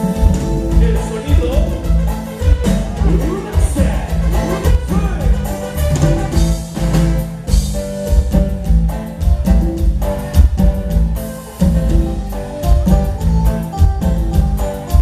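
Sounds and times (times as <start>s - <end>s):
live band playing instrumental: 0.0s - 15.0s.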